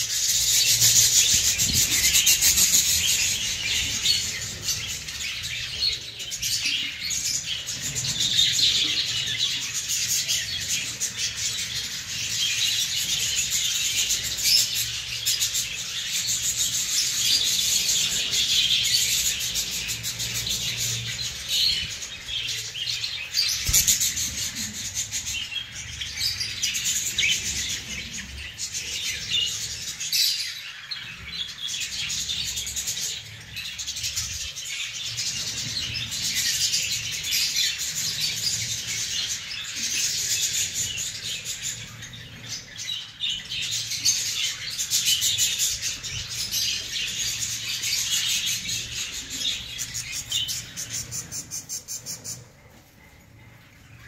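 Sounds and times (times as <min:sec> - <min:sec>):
budgerigars chattering and chirping: 0:00.0 - 0:52.8.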